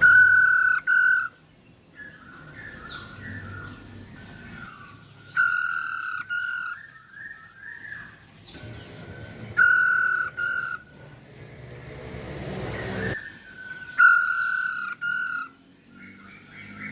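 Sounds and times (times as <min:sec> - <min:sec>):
bird harsh paired calls: 0:00.0 - 0:01.4, 0:02.0 - 0:08.1, 0:08.8 - 0:11.0, 0:12.7 - 0:16.9
faint bird chirps and whistles: 0:00.0 - 0:01.4, 0:02.0 - 0:11.0, 0:13.0 - 0:16.9.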